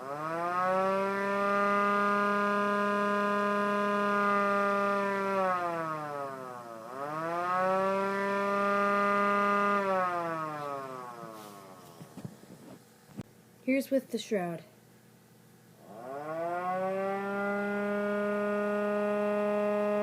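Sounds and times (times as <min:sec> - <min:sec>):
small siren wailing: 0:00.0 - 0:12.2, 0:15.8 - 0:20.0.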